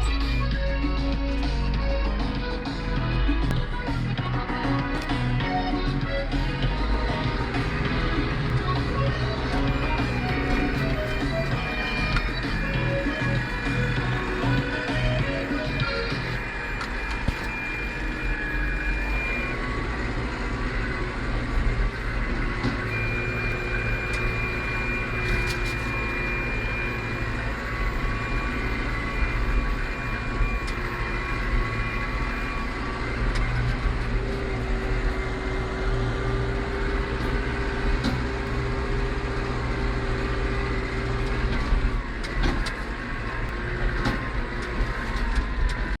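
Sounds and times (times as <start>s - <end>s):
steady whine: 0.0s - 46.0s
tractor engine rumbling: 0.0s - 46.0s.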